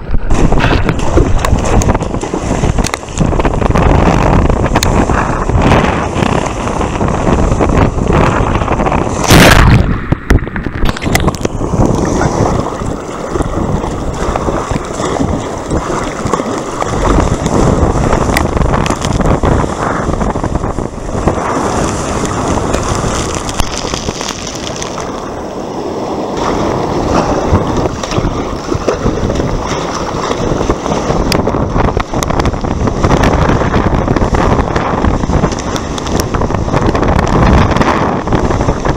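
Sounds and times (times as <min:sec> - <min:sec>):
water splashing against boat hull: 0:00.0 - 0:38.9
wind buffeting microphone: 0:00.0 - 0:38.9.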